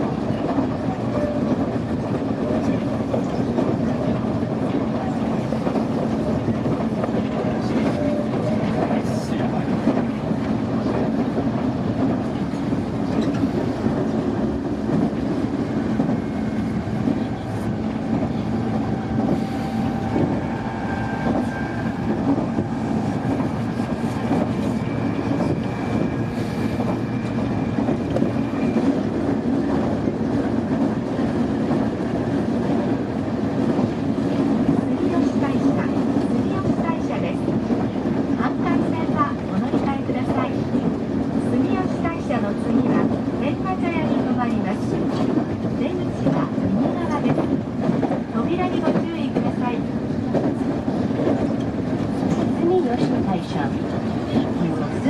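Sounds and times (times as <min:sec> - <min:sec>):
rail joint clicks: 0:00.0 - 0:55.0
train wheels rumbling on rails: 0:00.0 - 0:55.0.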